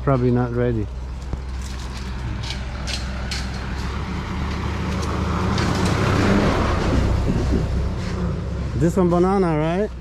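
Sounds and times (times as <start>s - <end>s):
vehicle engine passing: 0.7s - 10.0s.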